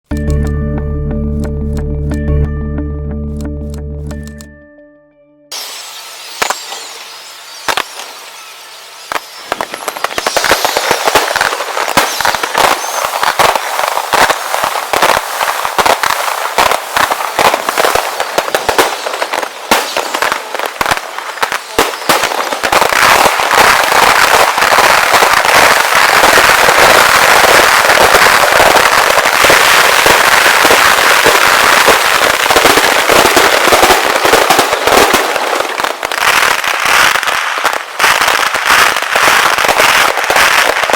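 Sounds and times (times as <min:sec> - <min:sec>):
fireworks bangs and crackles: 0:05.5 - 0:40.9.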